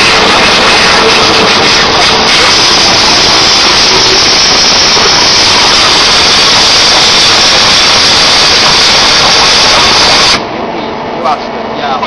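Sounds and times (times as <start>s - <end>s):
waterjet cutting metal hiss: 0.0s - 10.4s.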